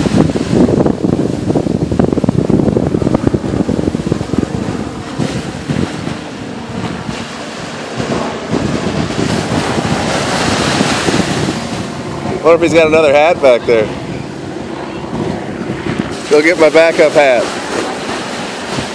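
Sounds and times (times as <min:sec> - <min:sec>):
small waves washing ashore: 0:00.0 - 0:18.9
wind buffeting microphone: 0:00.0 - 0:18.9.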